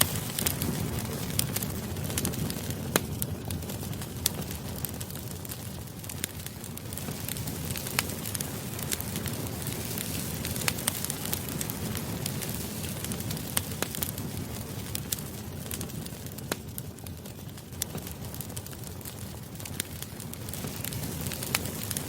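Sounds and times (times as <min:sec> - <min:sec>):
campfire rumble: 0:00.0 - 0:22.0
fire crackles and pops: 0:00.0 - 0:22.0.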